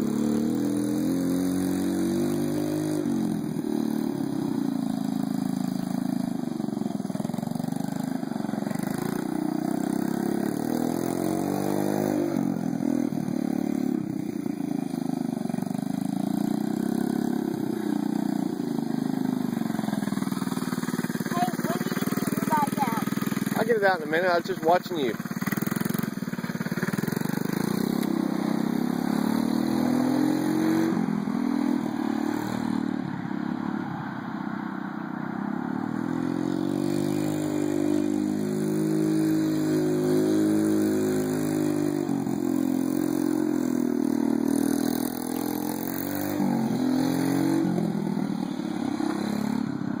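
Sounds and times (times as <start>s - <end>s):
minibike engine running: 0.0s - 33.0s, 35.9s - 50.0s.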